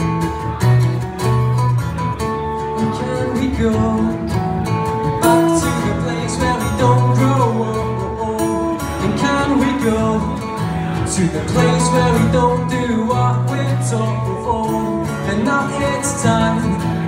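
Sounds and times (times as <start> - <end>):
acoustic guitars strumming chords: 0.0 - 17.0.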